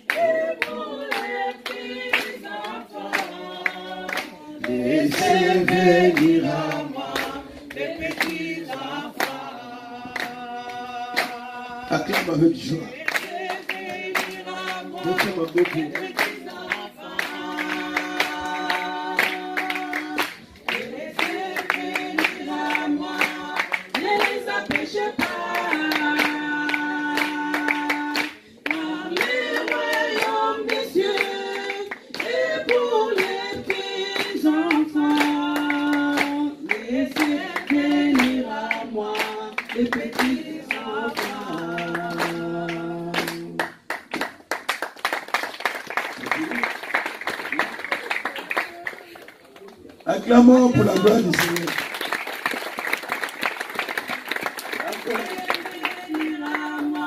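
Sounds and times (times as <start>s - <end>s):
hand-clapping: 0.0s - 9.4s, 10.0s - 12.4s, 13.0s - 50.0s, 50.8s - 57.0s
voices singing worship song: 0.0s - 46.7s, 50.1s - 52.2s, 53.1s - 57.0s.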